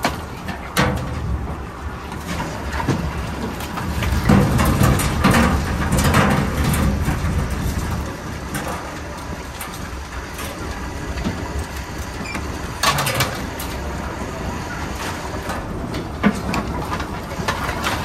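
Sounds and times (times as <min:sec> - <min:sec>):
boat engine low rumble: 0:00.0 - 0:18.0.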